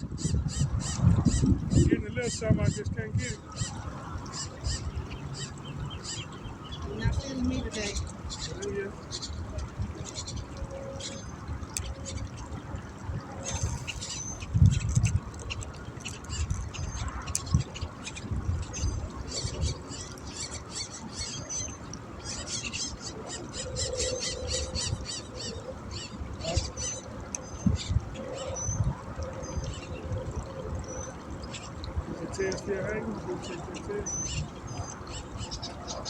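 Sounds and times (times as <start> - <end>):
birds chirping: 0.2 - 36.0.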